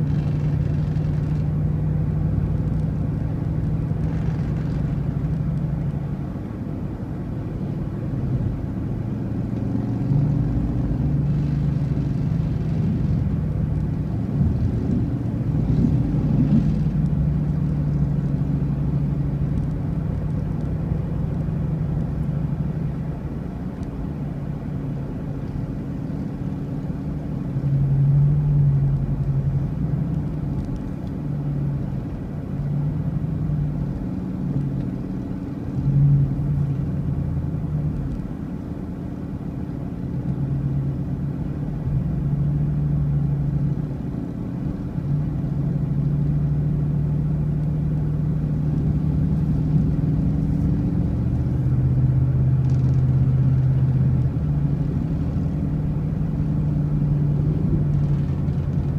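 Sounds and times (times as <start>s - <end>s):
road rumble: 0.0s - 58.9s
vehicle engine drone: 0.0s - 58.9s.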